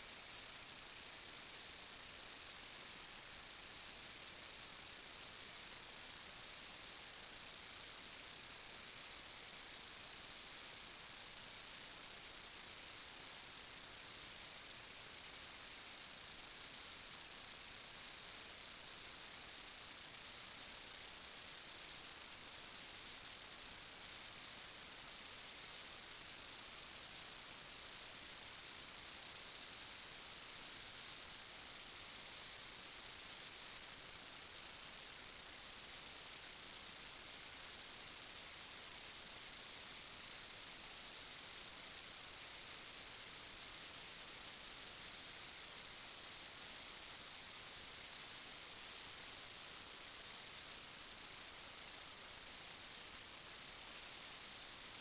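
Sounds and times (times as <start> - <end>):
high-pitched hiss with whine: 0.0 - 55.0.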